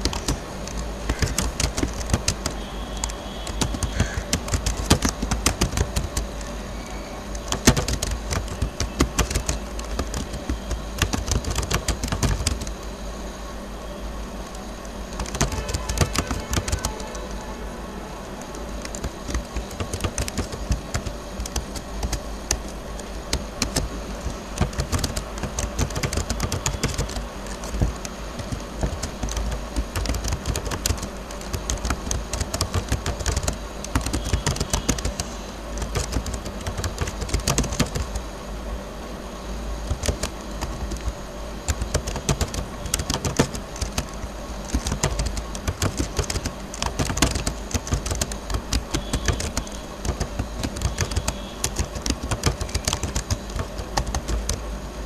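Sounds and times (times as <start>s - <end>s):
keyboard keystroke clicks: 0.0s - 6.6s, 7.3s - 12.7s, 14.5s - 17.4s, 18.4s - 38.2s, 39.8s - 54.6s
low steady hum: 0.0s - 55.0s.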